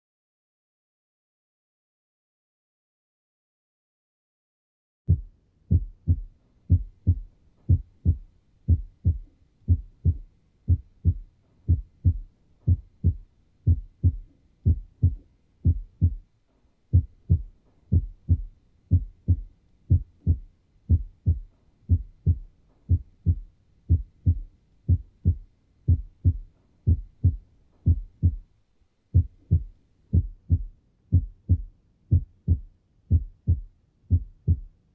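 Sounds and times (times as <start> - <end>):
heartbeat thumps: 5.1 - 16.3, 16.9 - 28.4, 29.1 - 34.8.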